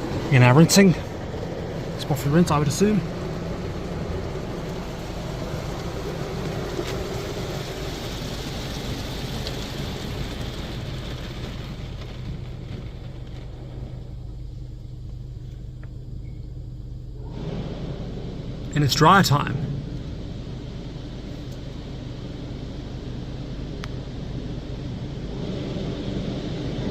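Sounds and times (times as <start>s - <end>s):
water spraying onto car: 0.0s - 16.1s, 17.2s - 26.9s
low hum: 0.0s - 26.9s.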